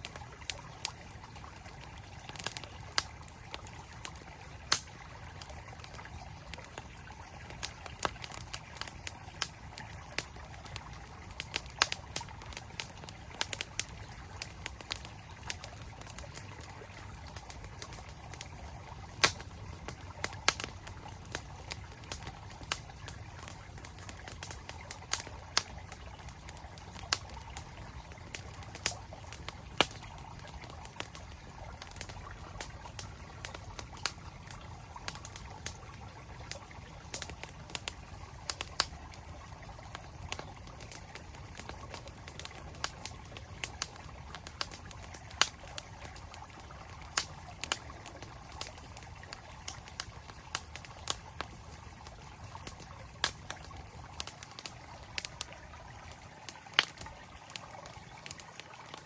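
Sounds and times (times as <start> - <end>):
campfire crackling: 0.0 - 59.0
flowing stream: 0.0 - 59.0.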